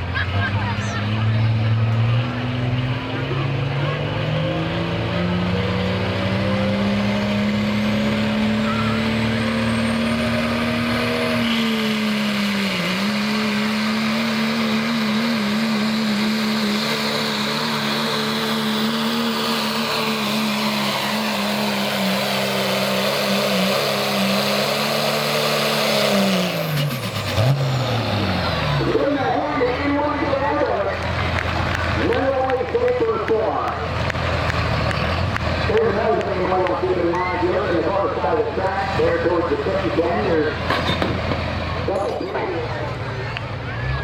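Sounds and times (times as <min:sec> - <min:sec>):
pickup engine running under load: 0:00.0 - 0:44.0.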